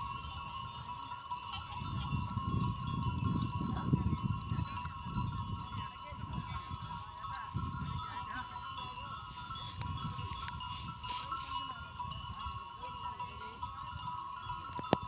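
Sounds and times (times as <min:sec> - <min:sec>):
goat bells clinking: 0:00.0 - 0:15.0.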